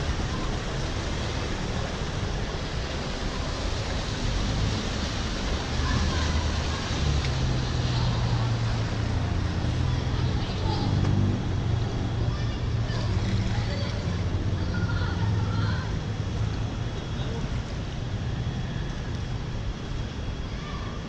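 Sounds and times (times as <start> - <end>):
vehicle engine hum: 0.0 - 20.4
rushing water: 0.0 - 21.0.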